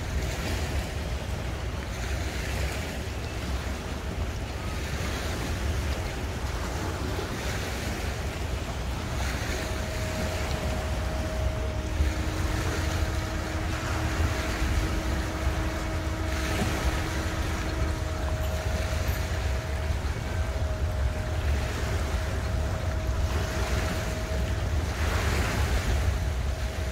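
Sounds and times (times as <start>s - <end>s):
faint steady motor hum: 0.0s - 26.9s
lower motor hum: 0.0s - 26.9s
outboard boat motors running: 0.0s - 26.9s
wind rumbling on microphone: 0.0s - 26.9s.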